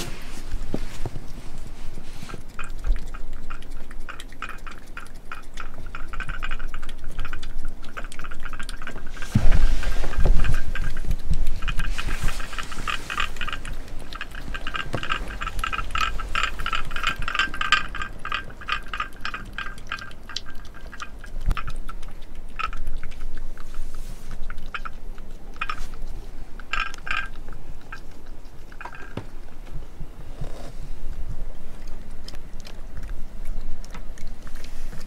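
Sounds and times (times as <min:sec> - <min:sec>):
cat licking and chewing: 0:00.0 - 0:35.0.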